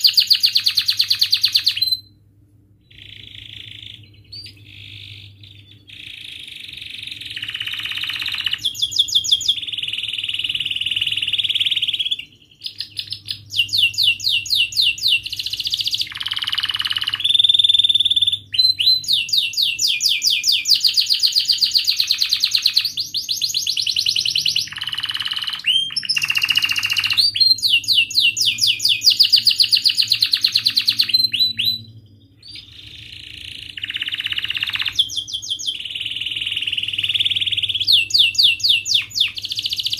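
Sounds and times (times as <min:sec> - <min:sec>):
canary singing trills: 0:00.0 - 0:02.2, 0:02.8 - 0:39.9.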